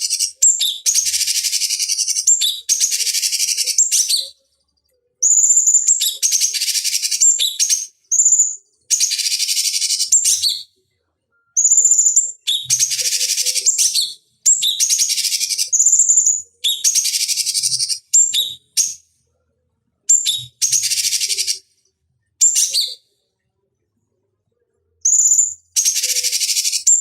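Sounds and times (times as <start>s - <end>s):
bird song whistle and rattling chatter: 0.0s - 4.4s, 5.2s - 10.7s, 11.6s - 19.0s, 20.1s - 21.7s, 22.4s - 23.1s, 25.0s - 27.0s.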